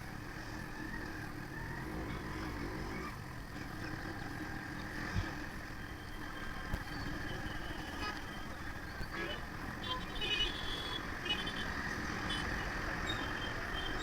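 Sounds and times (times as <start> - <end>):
motorcycle riding rumble: 0.0 - 14.0.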